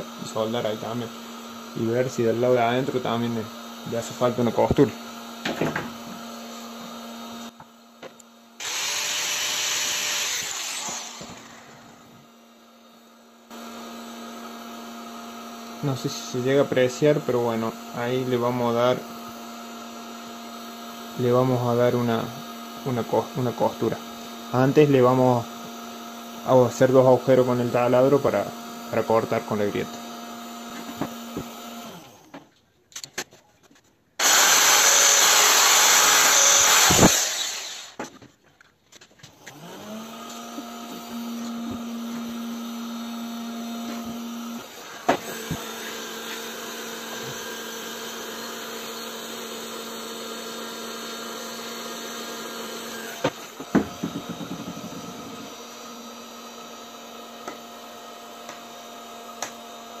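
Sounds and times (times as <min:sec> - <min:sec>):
electric drill whining: 0:00.0 - 0:32.5, 0:34.2 - 0:38.3, 0:38.9 - 1:00.0.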